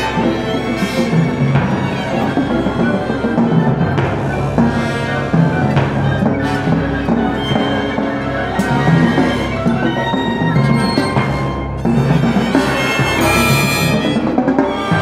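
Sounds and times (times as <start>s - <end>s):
orchestra playing sustained notes: 0.0s - 15.0s
timpani strokes: 0.0s - 15.0s.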